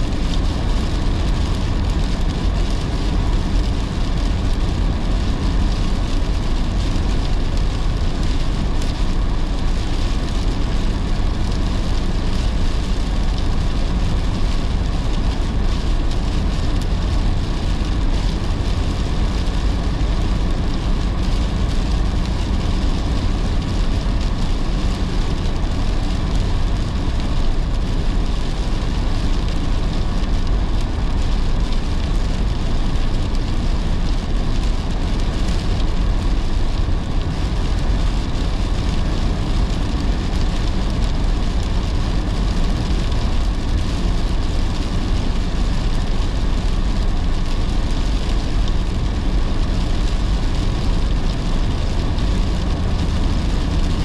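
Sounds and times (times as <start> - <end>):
rain on a car: 0.0 - 54.0
tyre and road noise: 0.0 - 54.0.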